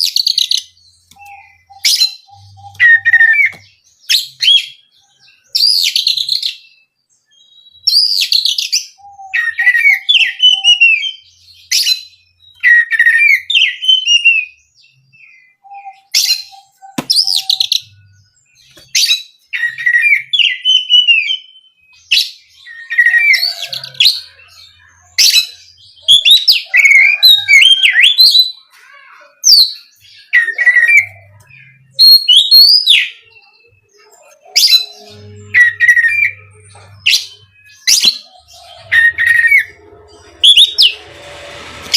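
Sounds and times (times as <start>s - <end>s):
bird singing whistles and chirps: 0.0s - 28.7s, 29.3s - 41.5s.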